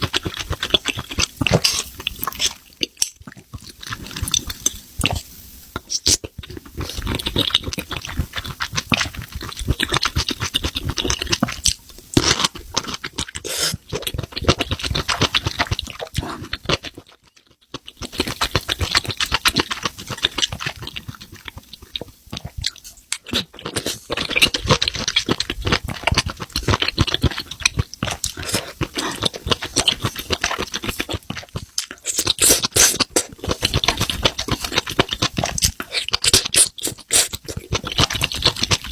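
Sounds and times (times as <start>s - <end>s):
chewing crunching: 0.0s - 38.9s.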